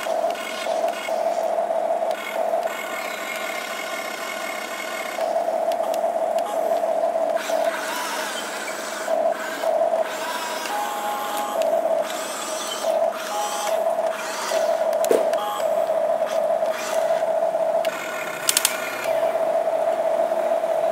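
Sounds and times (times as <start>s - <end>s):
toy excavator motors whining: 0.0s - 20.9s.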